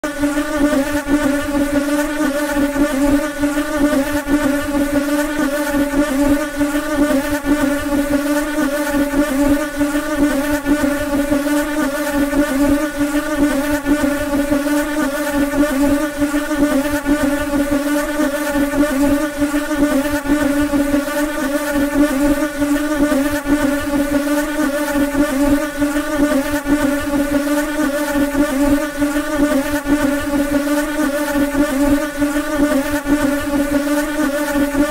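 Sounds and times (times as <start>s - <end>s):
housefly buzzing: 0.0s - 34.9s.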